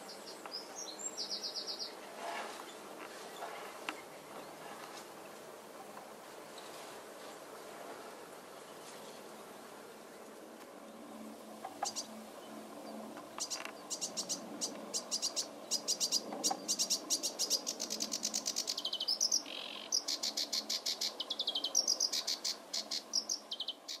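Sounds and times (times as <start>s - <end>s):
songbird singing: 0.0s - 6.7s, 8.4s - 24.0s
faint background noise: 0.0s - 24.0s.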